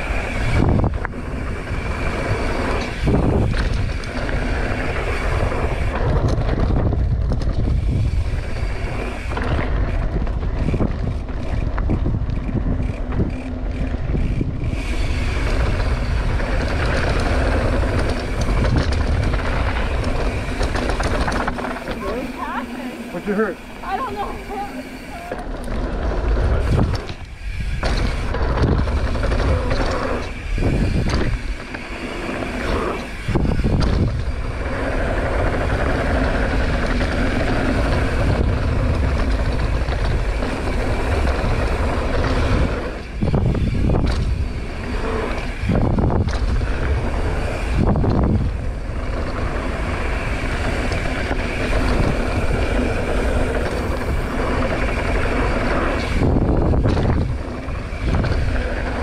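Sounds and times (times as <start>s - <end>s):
bike tyres rolling on dirt: 0.0s - 59.0s
wind buffeting microphone: 0.0s - 59.0s.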